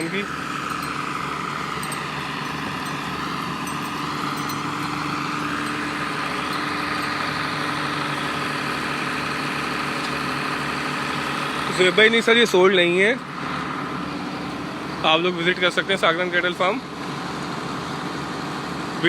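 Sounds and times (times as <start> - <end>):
constant noisy background: 0.0 - 19.0
steady mechanical hum: 0.0 - 19.0.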